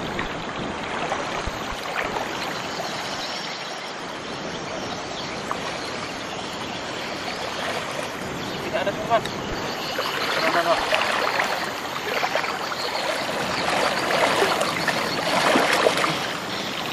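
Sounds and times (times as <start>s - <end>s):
small water splashes: 0.0s - 4.1s, 4.8s - 16.9s
river rushing: 0.0s - 16.9s.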